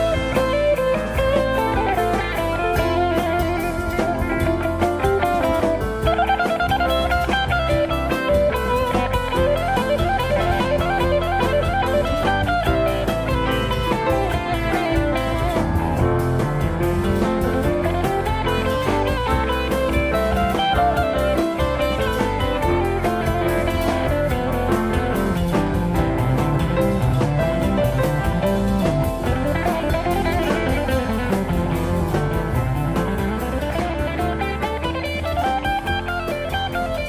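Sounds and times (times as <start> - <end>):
drum kit: 0.0 - 37.0
electric guitar runs: 0.0 - 37.0.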